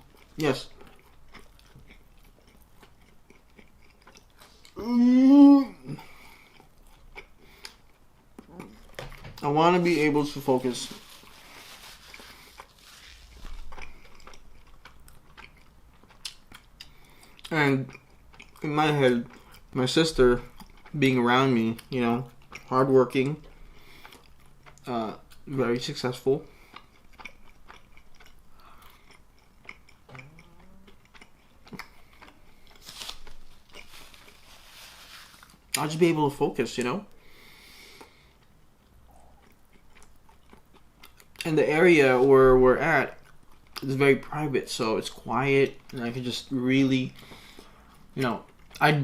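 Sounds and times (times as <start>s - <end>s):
person chewing food: 0.0s - 9.4s, 10.2s - 36.0s, 37.1s - 42.4s, 43.1s - 43.9s, 47.0s - 48.9s.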